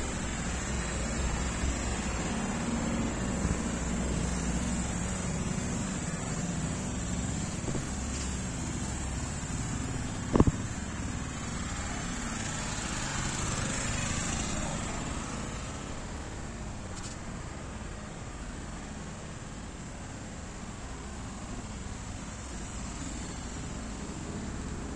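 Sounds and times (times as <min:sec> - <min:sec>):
outdoor rumble and hiss: 0:00.0 - 0:24.9.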